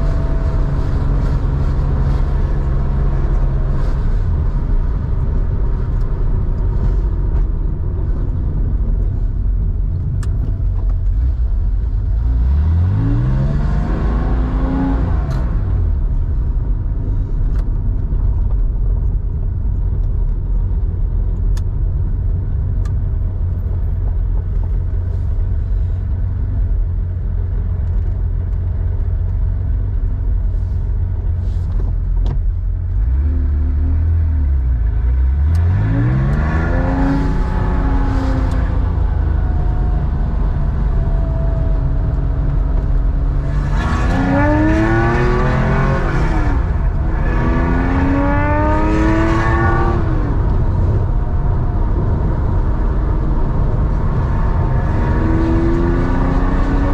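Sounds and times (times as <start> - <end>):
car engine rumbling and revving: 0.0 - 56.9.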